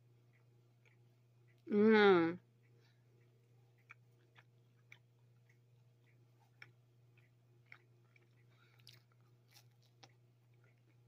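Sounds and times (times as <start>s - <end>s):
person chewing toast: 0.0s - 1.7s, 2.5s - 11.0s
steady low hum: 0.0s - 11.0s.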